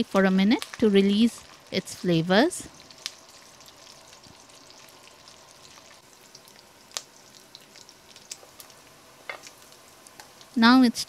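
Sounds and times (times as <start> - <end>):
sausage sizzling in pot: 0.0 - 11.0.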